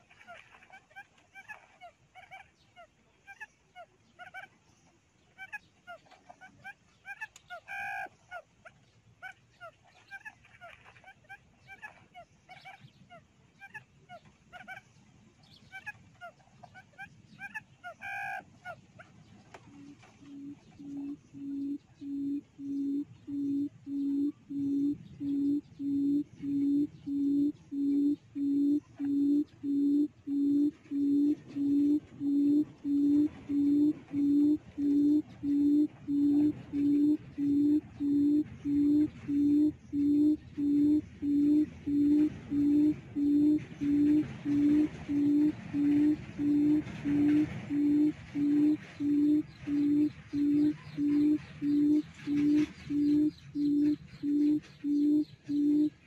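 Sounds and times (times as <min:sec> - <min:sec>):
recorded quail call: 0:00.0 - 0:04.6, 0:05.2 - 0:56.0.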